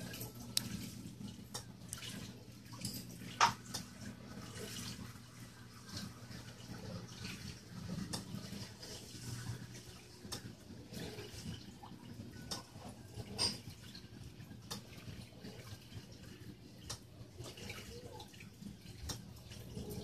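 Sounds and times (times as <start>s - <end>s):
aquarium water trickling: 0.0s - 20.0s
low steady hum: 0.0s - 20.0s
water drips: 0.0s - 20.0s.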